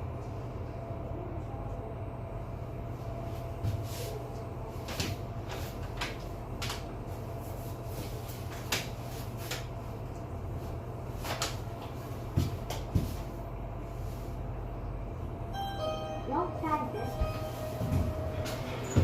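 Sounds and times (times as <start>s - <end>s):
elevator hum: 0.0s - 19.0s.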